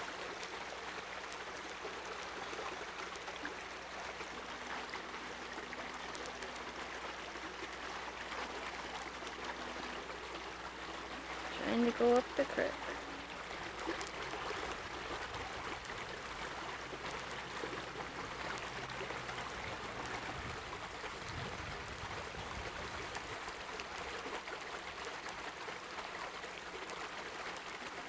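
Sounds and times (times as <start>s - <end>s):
creek water over rocks: 0.0s - 28.0s.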